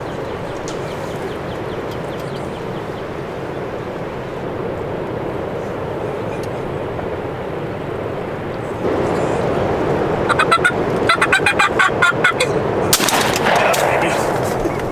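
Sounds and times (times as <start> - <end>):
strong wind blowing: 0.0 - 14.9.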